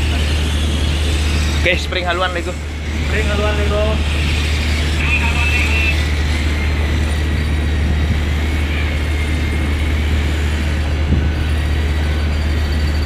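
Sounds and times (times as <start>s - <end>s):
faint high whine: 0.0s - 13.0s
ship machinery drone: 0.0s - 13.0s.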